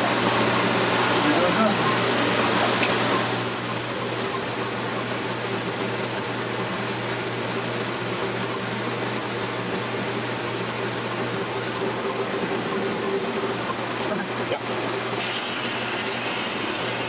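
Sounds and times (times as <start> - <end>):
blower hissing and humming: 0.0 - 17.0.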